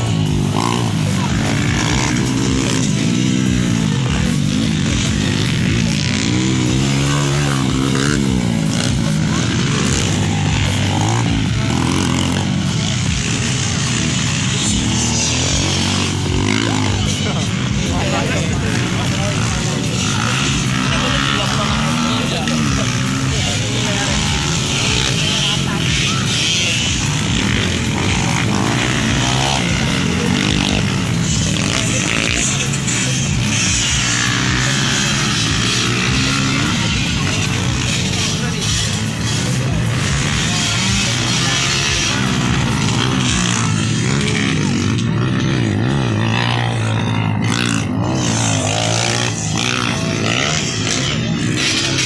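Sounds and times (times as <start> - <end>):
motocross bike engines: 0.0 - 52.0.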